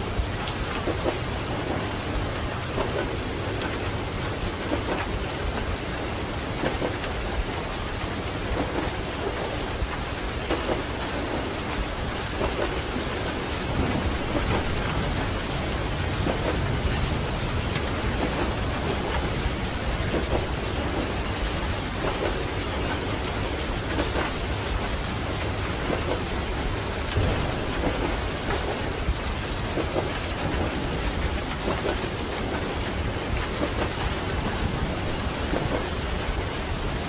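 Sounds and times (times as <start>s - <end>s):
moving train rumble: 0.0s - 37.0s
rain on a train carriage: 0.0s - 37.0s.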